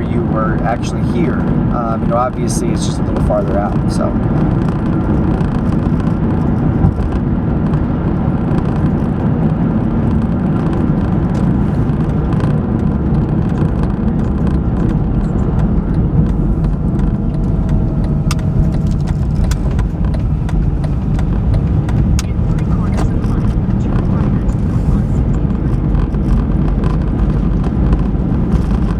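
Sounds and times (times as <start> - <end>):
car road and engine rumble: 0.0 - 28.9.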